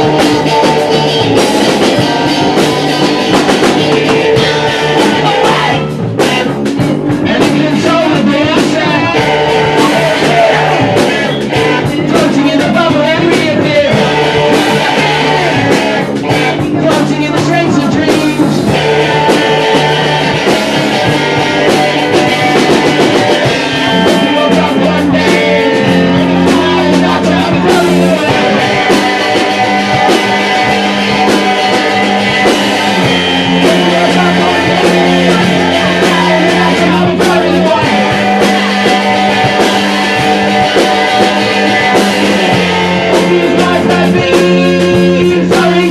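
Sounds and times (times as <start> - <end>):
drum kit: 0.0 - 45.9
electric guitar: 0.0 - 45.9
person singing: 0.0 - 45.9.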